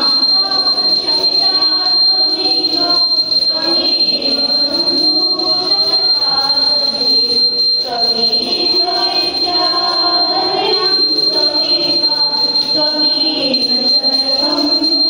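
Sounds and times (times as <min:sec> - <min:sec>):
hand bell ringing: 0:00.0 - 0:15.0
voices singing: 0:00.0 - 0:15.0.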